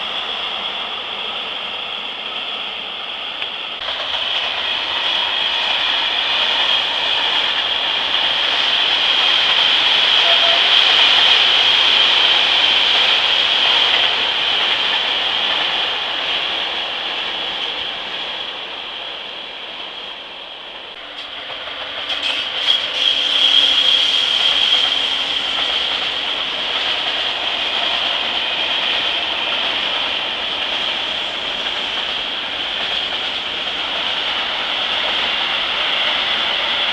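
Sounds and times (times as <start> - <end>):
train passing: 0.0 - 36.9.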